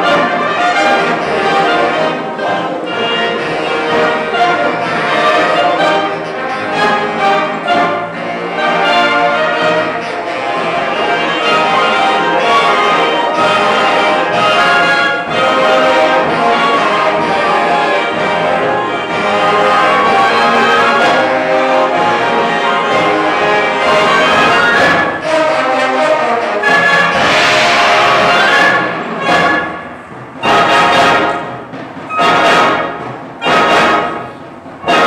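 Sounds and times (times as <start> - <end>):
concert band playing chords: 0.0 - 35.0.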